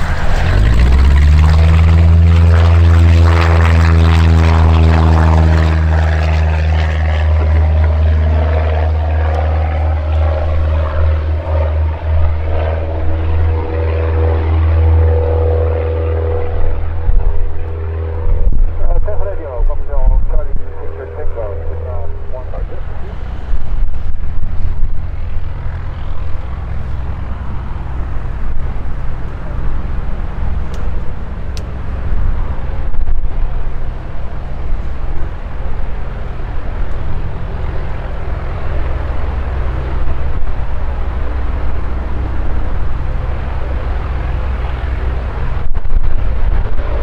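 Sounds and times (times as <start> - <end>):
propeller aircraft engine running: 0.0 - 47.0.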